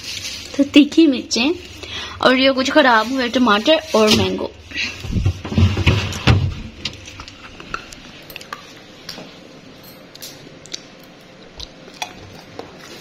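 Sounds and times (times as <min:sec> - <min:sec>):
faint refrigerator hum: 0:00.0 - 0:13.0.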